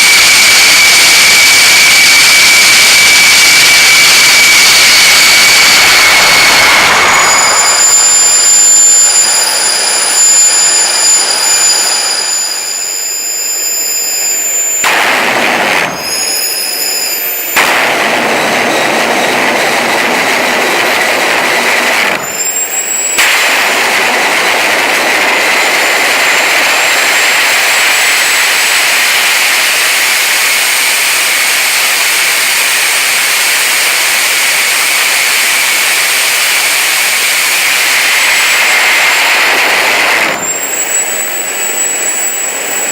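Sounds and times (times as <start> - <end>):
high turbine whine: 0.0 - 42.9
turbojet engine roaring: 0.0 - 42.9.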